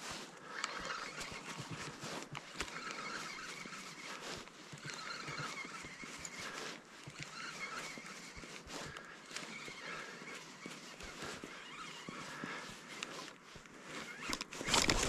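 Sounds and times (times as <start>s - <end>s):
rod and reel handling clicks: 0.3s - 12.2s, 12.8s - 15.0s
fishing reel gears whirring: 0.3s - 15.0s.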